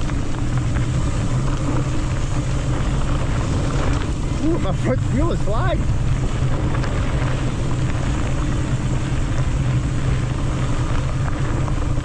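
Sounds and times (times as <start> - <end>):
tyres rumbling over dirt trail: 0.0 - 12.0
wind buffeting microphone: 0.0 - 12.0.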